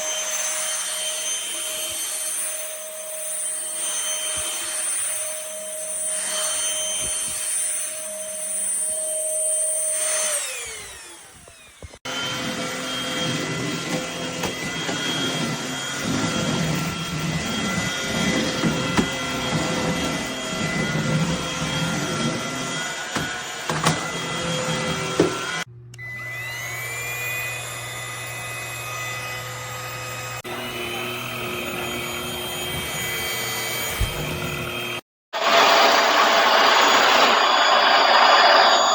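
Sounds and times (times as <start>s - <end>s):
vacuum cleaner motor whining: 0.0s - 38.9s.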